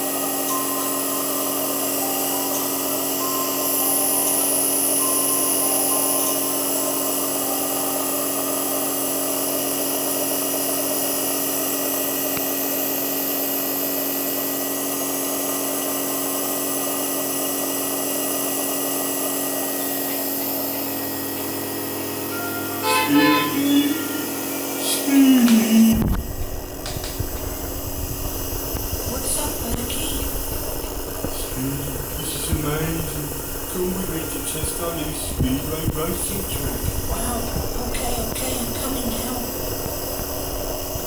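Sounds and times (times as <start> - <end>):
small electric motor humming: 0.0 - 41.0.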